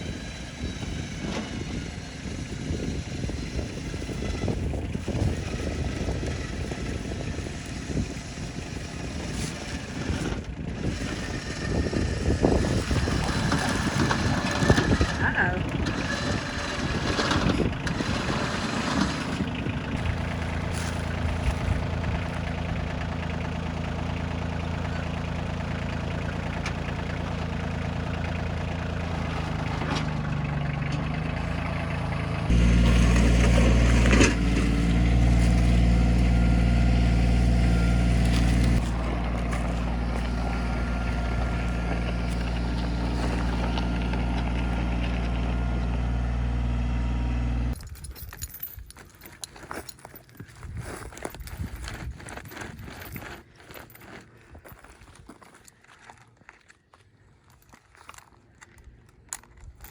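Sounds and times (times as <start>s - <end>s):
tractor diesel engine running: 0.0s - 55.7s.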